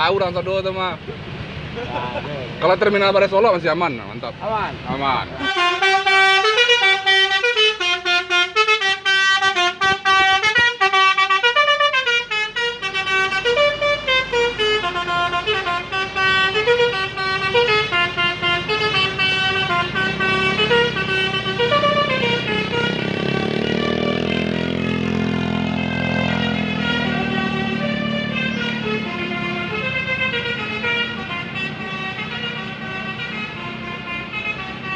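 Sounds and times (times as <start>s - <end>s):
low engine noise: 0.0s - 34.9s
multi-tone musical bus horn: 5.4s - 34.9s.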